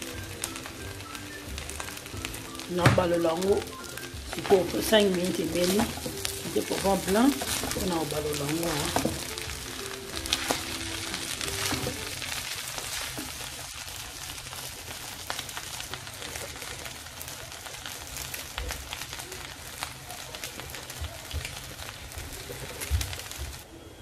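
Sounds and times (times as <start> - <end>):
food sizzling in a frying pan: 0.0 - 23.6.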